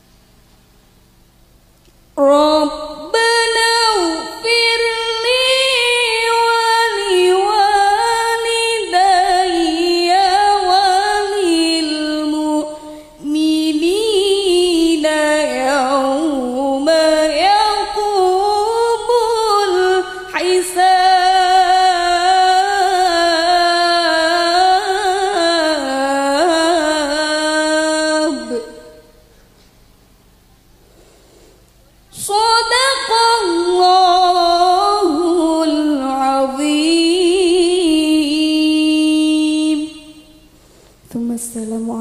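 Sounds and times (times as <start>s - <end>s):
woman chanting melodically: 2.2s - 29.2s, 32.1s - 40.5s, 41.1s - 42.0s.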